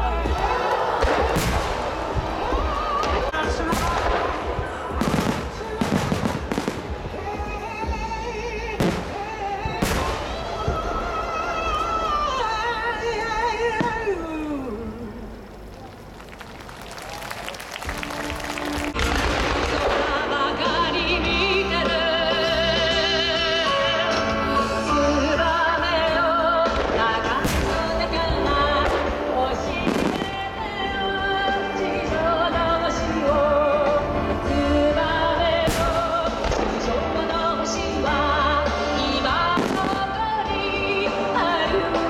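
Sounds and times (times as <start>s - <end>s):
person singing with vibrato: 2.7s - 15.6s, 19.8s - 42.0s.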